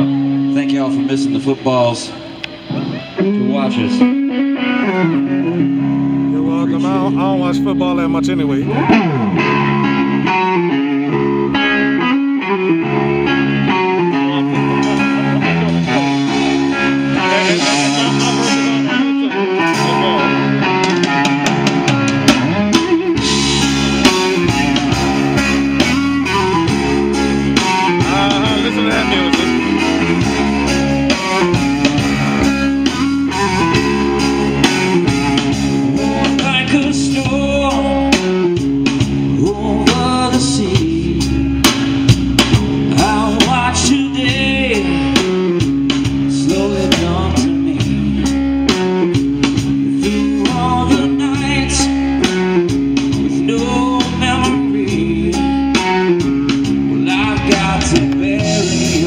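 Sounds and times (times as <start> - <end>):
bass: 0.0 - 59.0
drums: 0.0 - 59.0
electric guitar: 0.0 - 59.0.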